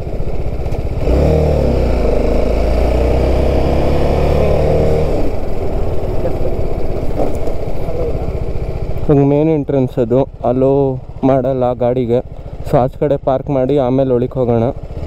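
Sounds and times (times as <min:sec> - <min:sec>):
motorcycle engine under throttle: 0:00.0 - 0:15.0
wind and road noise: 0:00.0 - 0:15.0.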